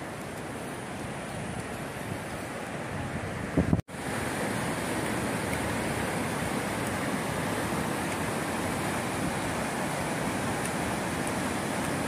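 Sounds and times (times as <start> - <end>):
river water rushing over weir: 0.0 - 12.0.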